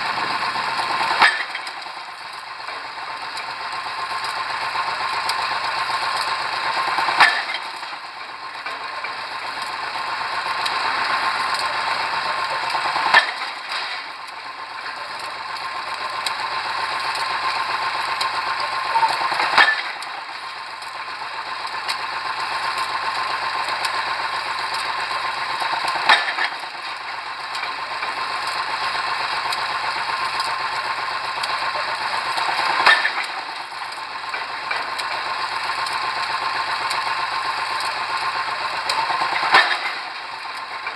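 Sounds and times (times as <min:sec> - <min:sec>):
rig engine running: 0:00.0 - 0:40.9.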